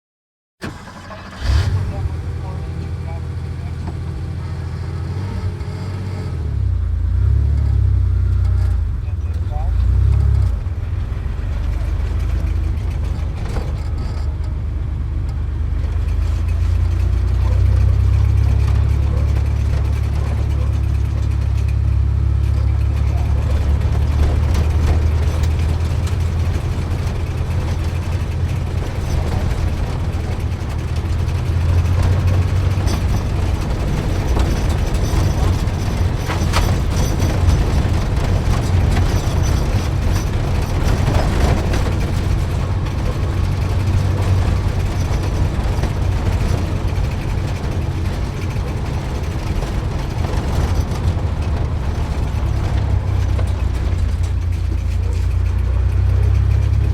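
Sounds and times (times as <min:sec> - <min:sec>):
sports car engine rumbling: 0:00.6 - 0:56.9.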